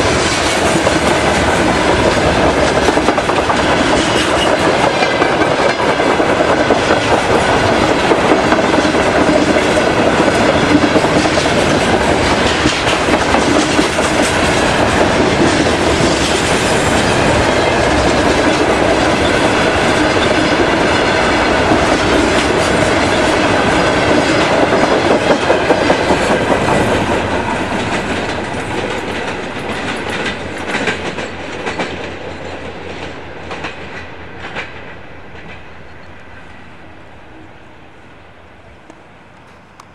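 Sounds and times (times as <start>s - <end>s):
train wheels clicking over rail joints: 0.0s - 36.6s.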